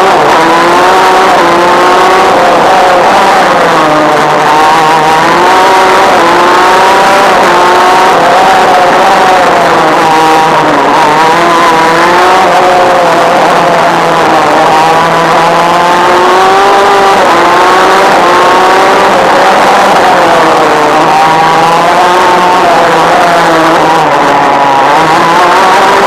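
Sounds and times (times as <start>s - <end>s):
kart engine buzzing: 0.0s - 26.0s.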